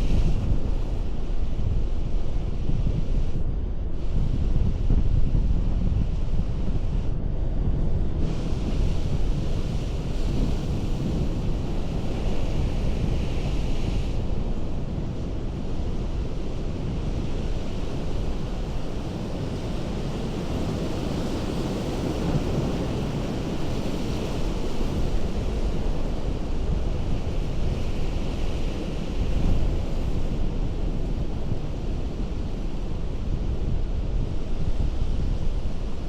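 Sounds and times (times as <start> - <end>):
wind rumble on microphone: 0.0 - 36.0.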